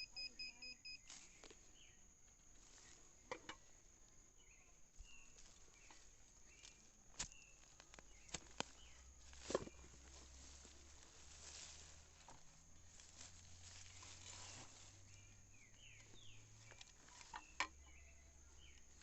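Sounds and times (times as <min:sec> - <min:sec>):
footsteps through undergrowth: 0:01.0 - 0:19.0.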